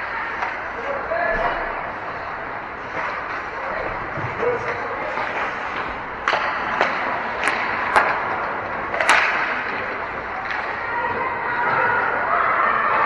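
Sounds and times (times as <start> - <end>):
hockey sticks clacking on puck: 0.2 - 2.2, 2.8 - 12.0.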